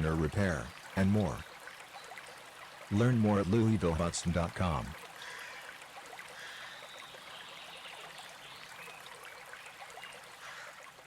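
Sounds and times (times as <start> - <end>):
running water trickling: 0.0 - 11.0.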